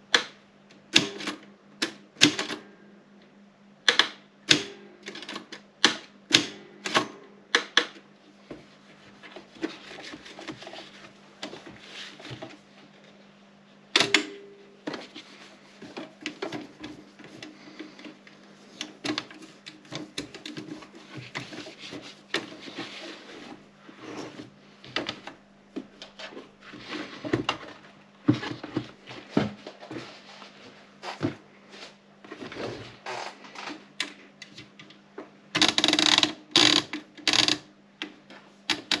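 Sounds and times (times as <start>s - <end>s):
faint low hum: 0.0s - 35.6s.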